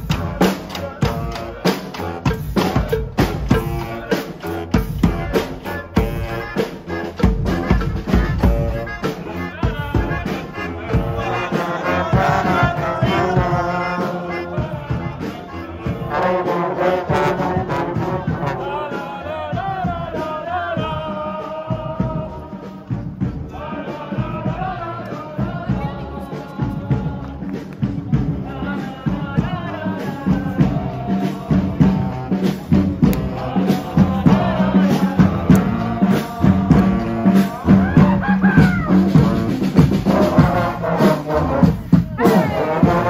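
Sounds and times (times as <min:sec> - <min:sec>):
bass drum beating: 0:00.0 - 0:16.2, 0:17.5 - 0:43.0
brass instruments playing melody: 0:00.0 - 0:26.7, 0:28.2 - 0:43.0
snare drums: 0:00.0 - 0:43.0.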